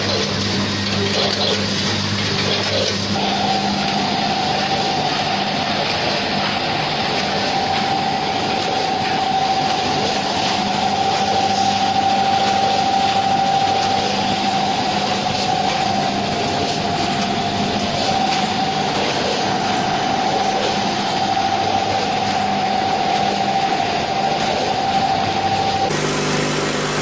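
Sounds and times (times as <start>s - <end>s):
packing machine hum and whine: 0.0s - 27.0s.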